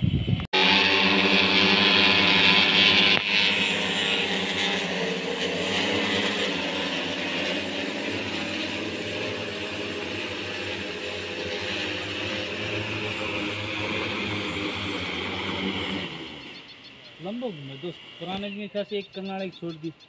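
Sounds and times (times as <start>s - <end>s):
drone rotors buzzing: 0.0s - 20.0s.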